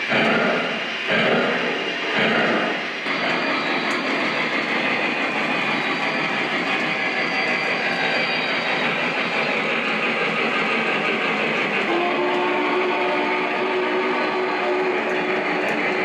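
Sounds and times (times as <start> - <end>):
model train running on rails: 0.0 - 16.0.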